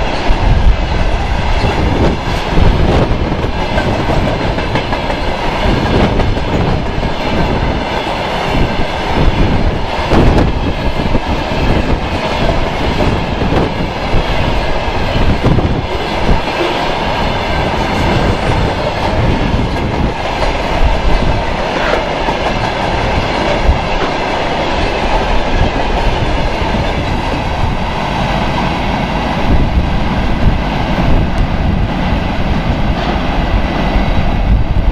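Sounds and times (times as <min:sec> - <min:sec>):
freight train wheels clattering: 0:00.0 - 0:34.3.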